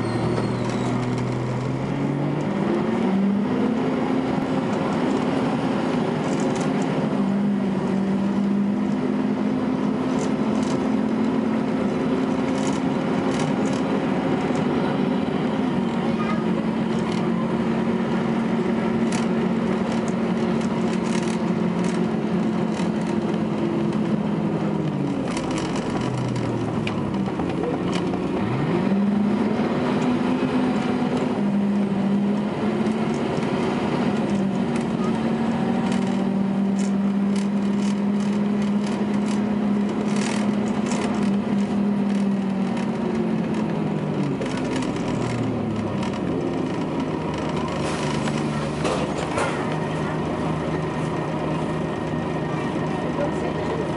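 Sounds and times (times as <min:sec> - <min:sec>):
bus diesel engine: 0:00.0 - 0:53.9.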